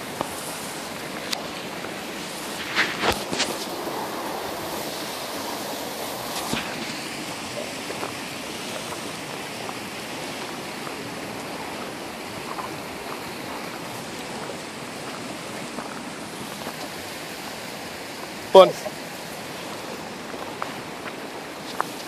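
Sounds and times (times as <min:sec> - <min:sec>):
creek water rushing over rapids: 0:00.0 - 0:22.0.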